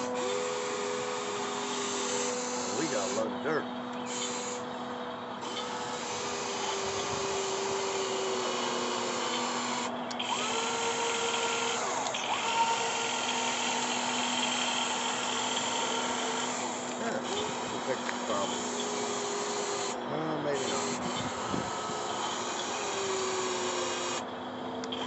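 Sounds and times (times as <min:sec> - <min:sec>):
toy excavator motors whining: 0:00.0 - 0:25.0.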